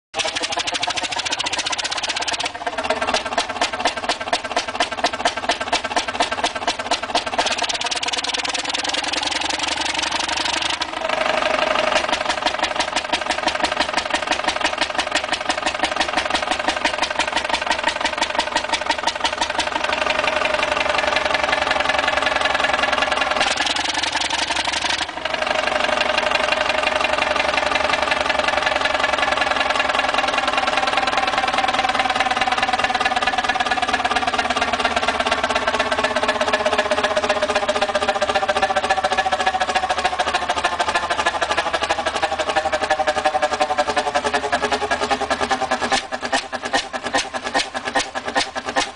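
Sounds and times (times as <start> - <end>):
stationary engine running: 0.2 - 48.9.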